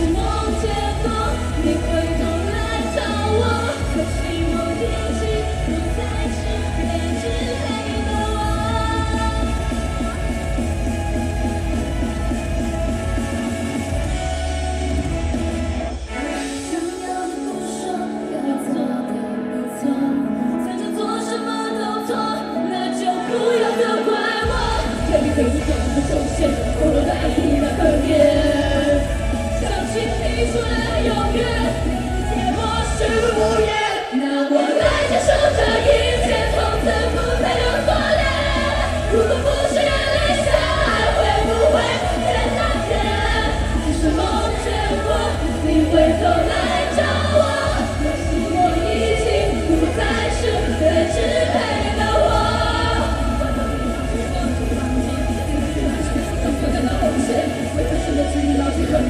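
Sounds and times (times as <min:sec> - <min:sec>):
women singing pop song: 0:00.0 - 0:14.3, 0:16.0 - 0:59.0
bass and drums: 0:00.0 - 0:16.8, 0:24.4 - 0:33.9, 0:34.8 - 0:59.0.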